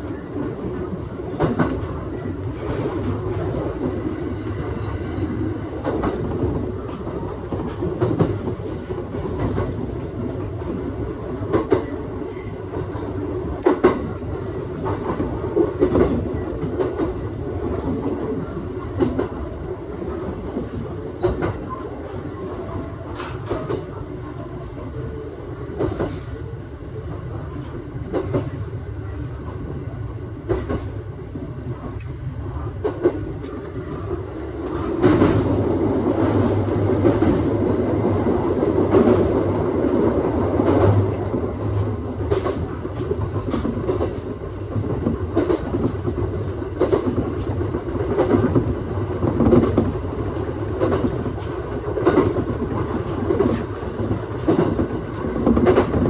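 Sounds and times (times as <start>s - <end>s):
train wheels rumbling on rails: 0.0s - 56.0s
clacks over rail joints: 0.6s - 24.1s, 30.0s - 56.0s.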